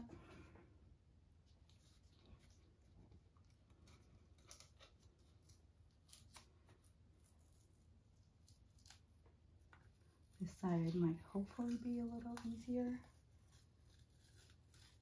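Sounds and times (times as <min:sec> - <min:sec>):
tape crinkling: 0:01.4 - 0:15.0.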